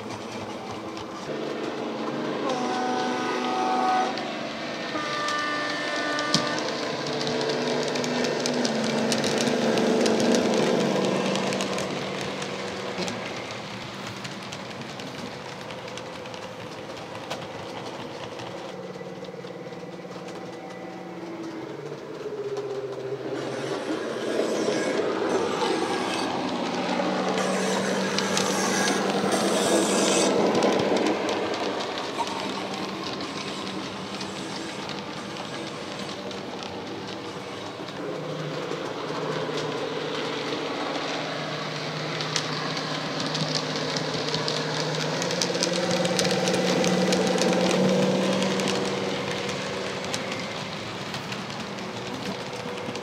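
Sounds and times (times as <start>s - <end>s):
model train wheels clicking: 0.0s - 53.0s.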